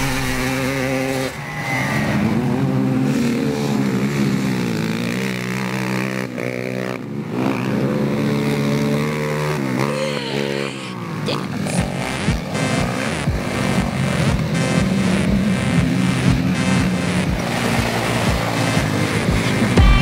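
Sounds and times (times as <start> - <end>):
atv engines revving: 0.0 - 20.0.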